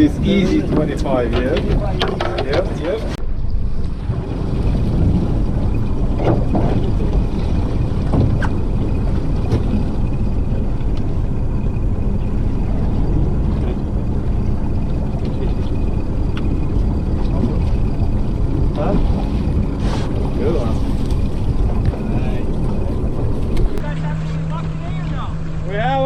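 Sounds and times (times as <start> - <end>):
boat engine running: 0.0 - 26.0
water against hull: 0.0 - 26.0.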